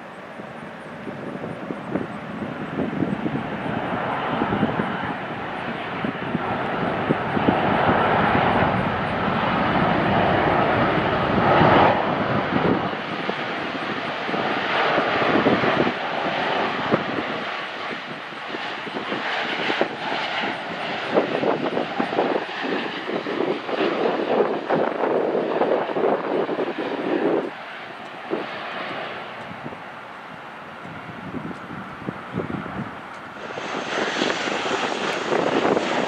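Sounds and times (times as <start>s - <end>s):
jet engine roar: 0.0s - 36.0s.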